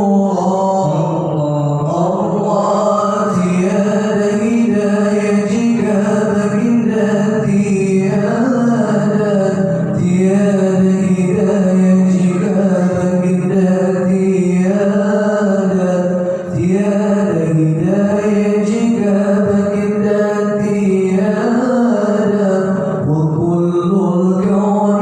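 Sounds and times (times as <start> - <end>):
person singing through microphone: 0.0 - 25.0.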